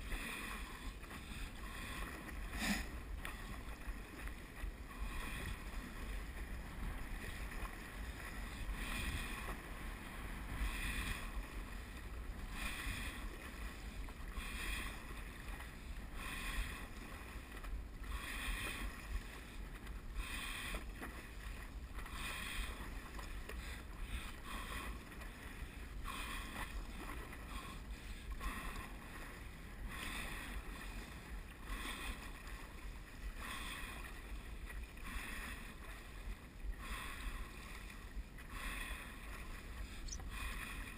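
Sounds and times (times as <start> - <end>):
paddle splashing in water: 0.0 - 40.9.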